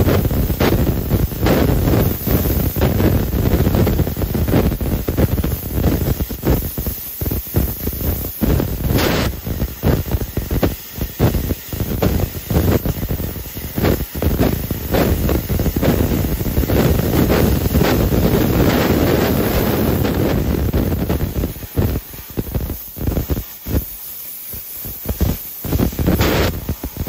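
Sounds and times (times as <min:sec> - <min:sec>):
laser cutter gas hiss: 0:00.0 - 0:27.0.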